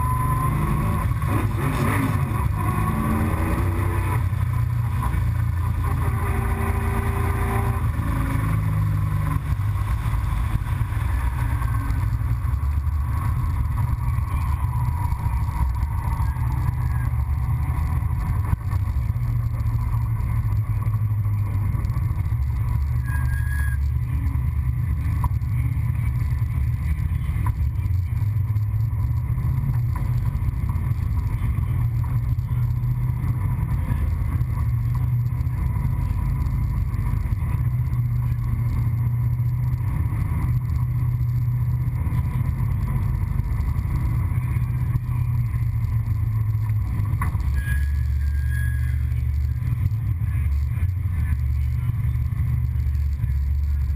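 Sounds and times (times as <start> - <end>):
race car engine idling: 0.0 - 53.9.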